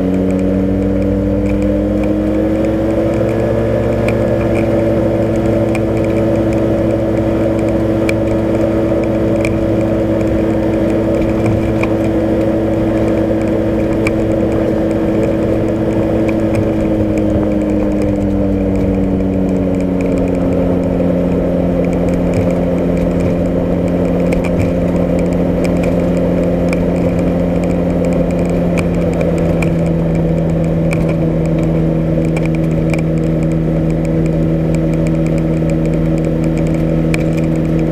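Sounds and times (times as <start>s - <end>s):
light aircraft engine and propeller: 0.0s - 37.9s.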